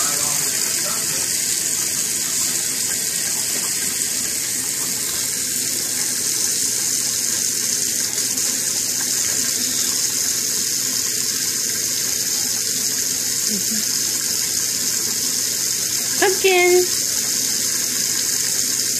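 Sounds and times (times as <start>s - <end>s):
faucet water splashing into sink: 0.0s - 18.9s.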